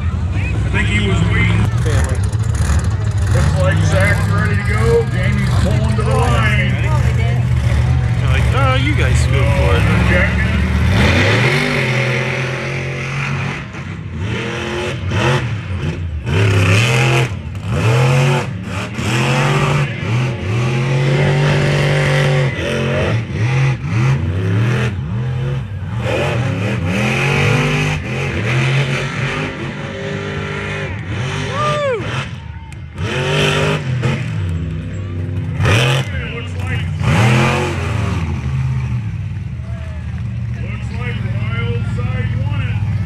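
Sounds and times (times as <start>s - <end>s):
monster truck engines revving: 0.0s - 43.0s.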